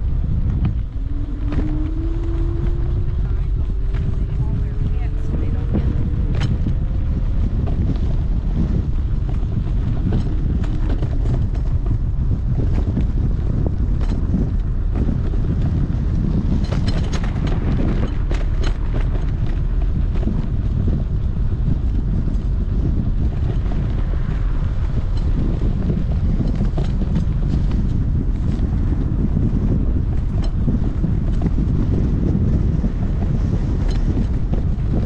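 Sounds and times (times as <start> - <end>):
sharp clicks and rattles: 0.0 - 35.0
wind buffeting microphone: 0.0 - 35.0.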